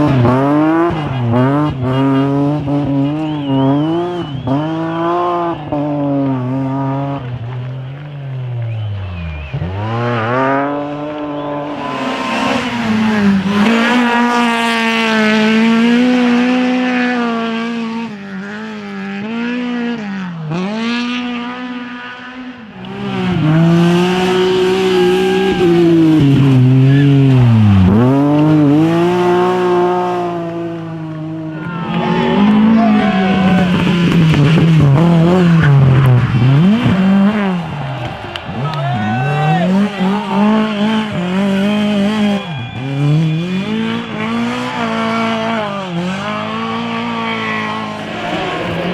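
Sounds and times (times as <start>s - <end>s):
car engine revving hard: 0.0s - 48.9s.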